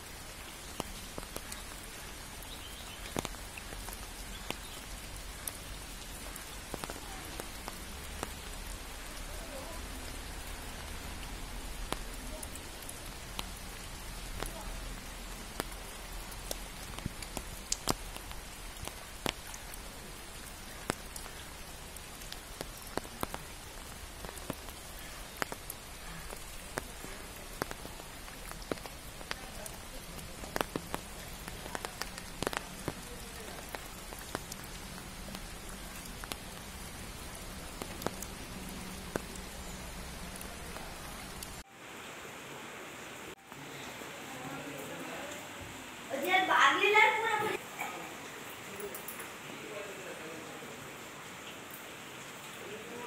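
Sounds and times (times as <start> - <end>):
heavy rain on water and foliage: 0.0 - 53.0.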